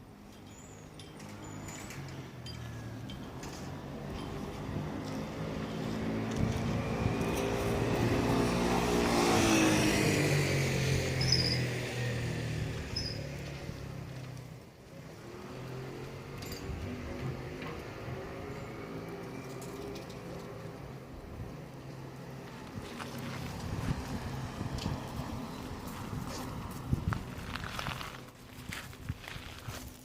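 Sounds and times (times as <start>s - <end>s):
vehicle driving past: 3.6s - 21.1s, 21.7s - 28.2s.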